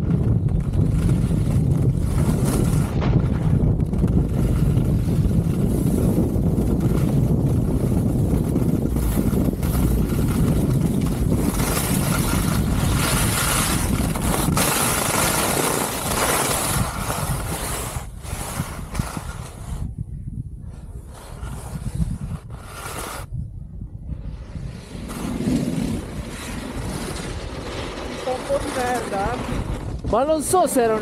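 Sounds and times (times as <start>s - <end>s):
wind rushing over microphone: 0.0s - 31.0s
skis sliding on snow: 0.8s - 3.0s, 4.0s - 19.8s, 20.7s - 23.3s, 24.6s - 31.0s.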